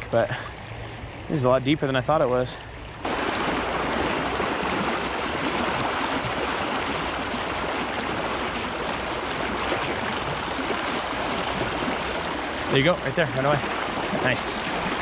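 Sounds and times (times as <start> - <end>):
river water rushing and splashing: 2.7 - 15.0.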